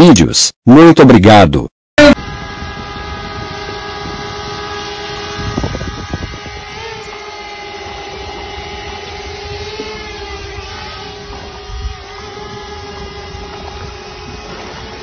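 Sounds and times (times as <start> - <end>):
drone propellers humming: 2.0 - 15.0.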